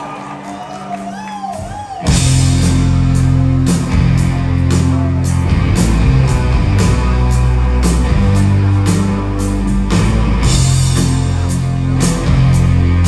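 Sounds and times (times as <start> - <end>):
rock band playing loudly: 0.0 - 13.0.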